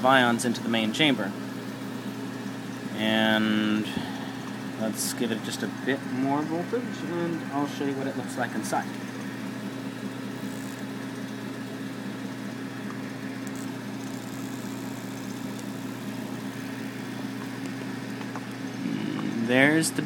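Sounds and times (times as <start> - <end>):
steady electrical hum with hiss: 0.0 - 20.0.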